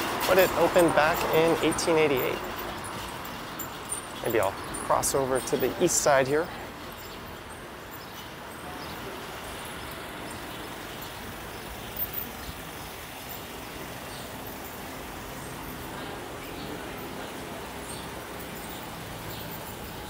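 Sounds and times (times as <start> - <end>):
passing vehicles: 0.0 - 20.0.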